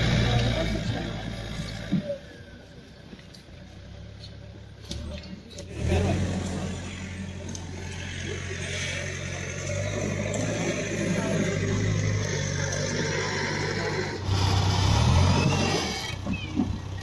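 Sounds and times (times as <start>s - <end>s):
diesel engine revving: 0.0s - 3.0s, 3.6s - 17.0s.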